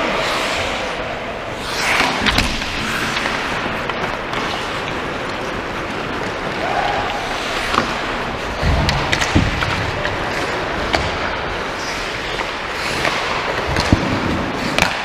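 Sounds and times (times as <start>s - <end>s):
hockey sticks and puck clacking: 1.6s - 15.0s.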